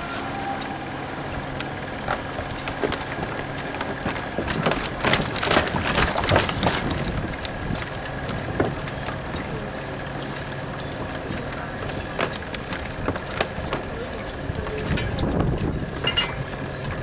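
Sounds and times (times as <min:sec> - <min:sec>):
steady low hum: 0:00.0 - 0:17.0
wooden knocks of oars: 0:00.6 - 0:17.0.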